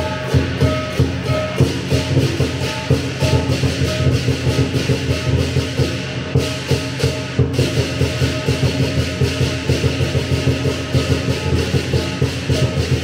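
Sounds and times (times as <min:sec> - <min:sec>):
big drum beating: 0:00.0 - 0:13.0
cymbals clashing: 0:00.0 - 0:13.0
gong: 0:00.0 - 0:13.0.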